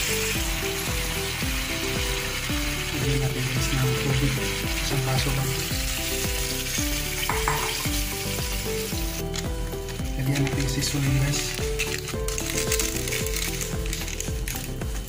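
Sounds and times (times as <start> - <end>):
background music with beat: 0.0 - 15.0
food sizzling in frying pan: 0.0 - 15.0
water pouring: 0.0 - 15.0.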